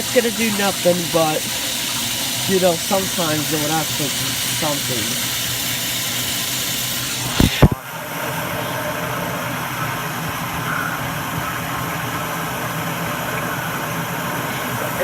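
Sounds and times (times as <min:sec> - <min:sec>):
water rushing into toilet bowl: 0:00.0 - 0:15.0.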